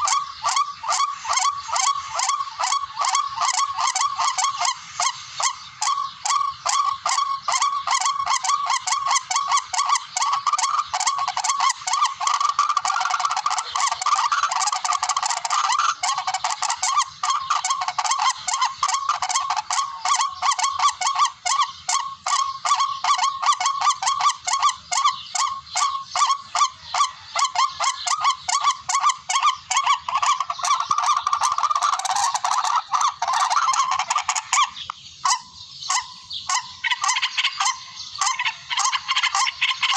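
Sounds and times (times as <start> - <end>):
recorded rail bird call: 0.0 - 39.9.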